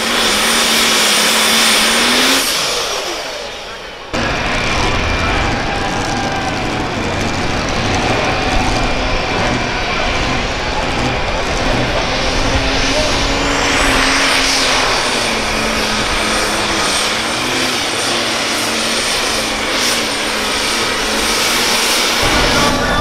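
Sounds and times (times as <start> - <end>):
tractor engine at full load: 0.0 - 23.0.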